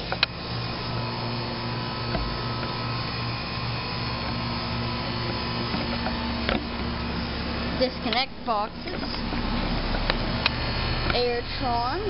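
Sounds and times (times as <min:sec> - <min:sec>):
air conditioner hum with fan: 0:00.0 - 0:12.0.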